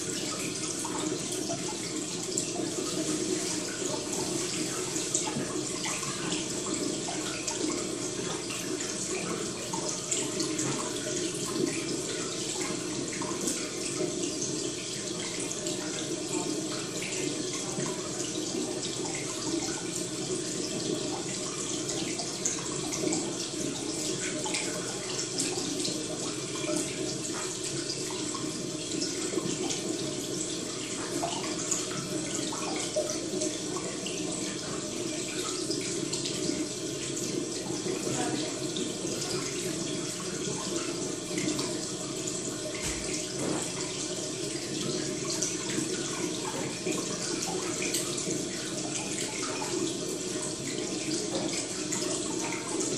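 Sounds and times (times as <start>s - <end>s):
running water: 0.0s - 52.9s.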